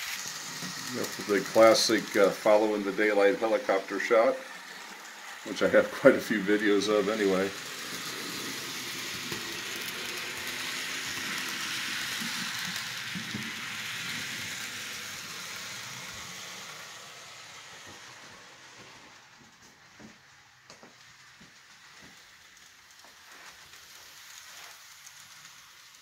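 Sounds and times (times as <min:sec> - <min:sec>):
model train wheels hissing on rail: 0:00.0 - 0:26.0.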